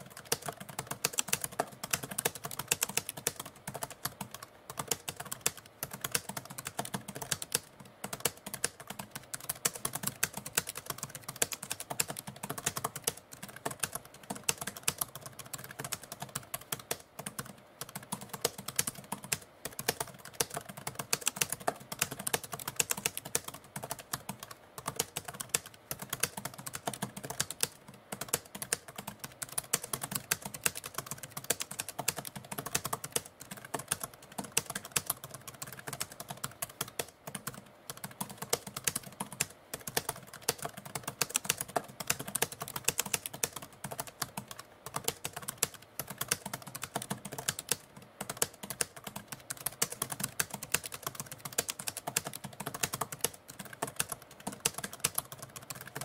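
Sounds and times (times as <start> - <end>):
typewriter keystrokes: 0.0 - 56.0.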